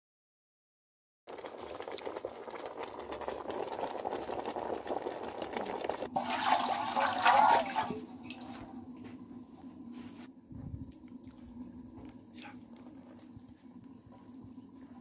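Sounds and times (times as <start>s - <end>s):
pot bubbling on the boil: 1.3s - 15.0s.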